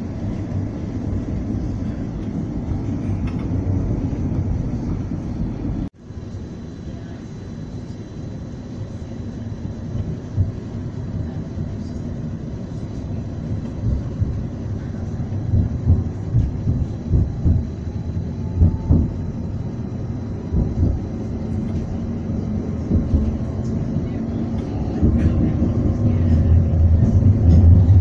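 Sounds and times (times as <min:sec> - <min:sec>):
tram rumbling on rails: 0:00.0 - 0:08.0, 0:08.8 - 0:28.0.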